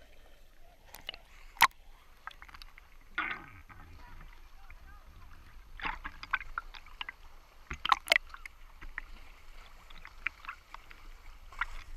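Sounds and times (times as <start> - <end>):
water clicks and crackles: 0.0 - 11.9.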